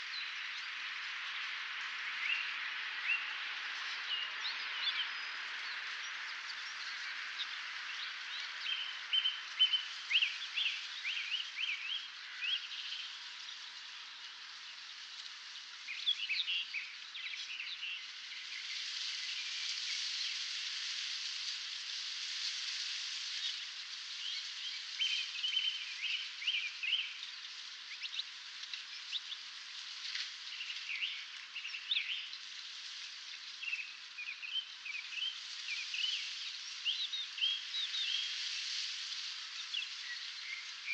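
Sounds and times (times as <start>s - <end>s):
songbirds chirping: 0.0s - 40.9s
steady background hiss: 0.0s - 40.9s.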